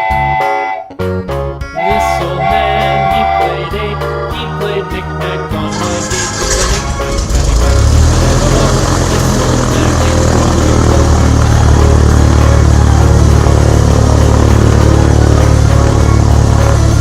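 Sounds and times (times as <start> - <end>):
vehicle engine rumble: 2.4 - 17.0.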